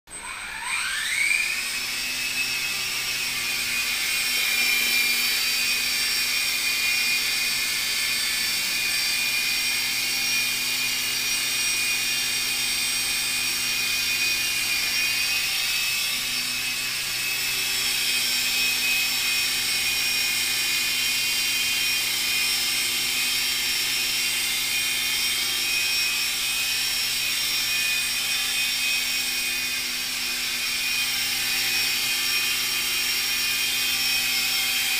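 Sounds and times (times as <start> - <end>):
toy helicopter rotors whining: 0.1 - 34.9.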